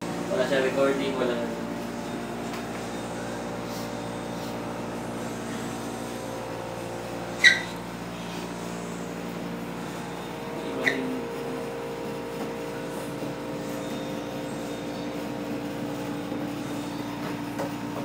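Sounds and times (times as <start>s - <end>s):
indoor mechanical hum: 0.0s - 18.0s.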